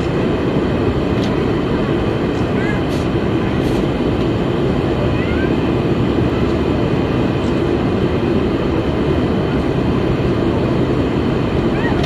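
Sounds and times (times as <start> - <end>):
jet engines running at low power: 0.0 - 12.0.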